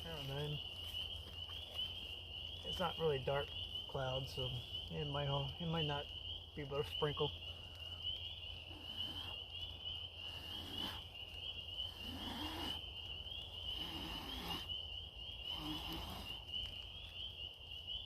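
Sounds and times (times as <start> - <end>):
fainter lower frog calls: 0.0 - 18.0
frogs trilling chorus: 0.0 - 18.0.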